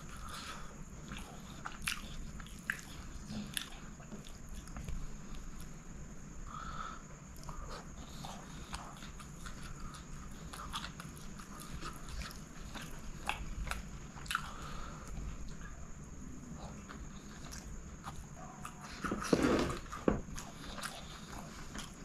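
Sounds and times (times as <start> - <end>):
close-miked chewing: 0.0 - 5.8, 7.3 - 22.0.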